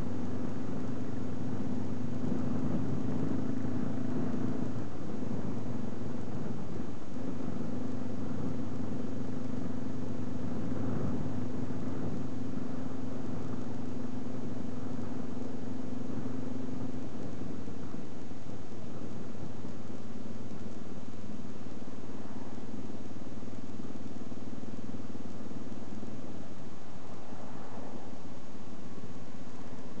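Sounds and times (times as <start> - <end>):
motorcycle engine cruising: 0.0 - 30.0
wind rumbling on microphone: 0.0 - 30.0.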